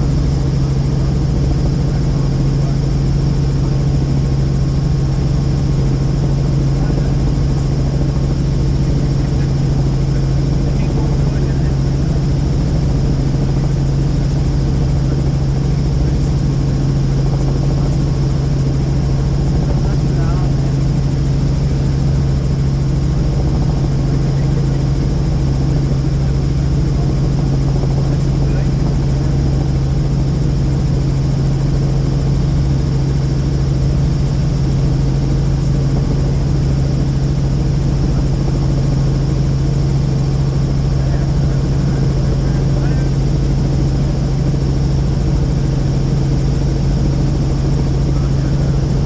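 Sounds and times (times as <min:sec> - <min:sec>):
helicopter engine and rotor drone: 0:00.0 - 0:49.0.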